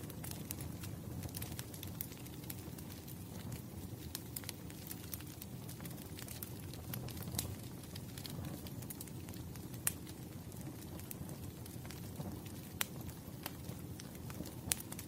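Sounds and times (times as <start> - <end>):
fire low rumble: 0.0 - 15.0
logs crackling and popping: 0.0 - 15.0.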